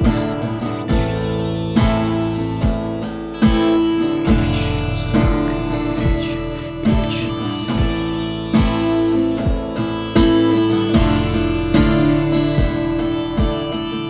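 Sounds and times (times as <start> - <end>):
steady drum beat: 0.0 - 13.9
guitar chords strummed: 0.0 - 14.0.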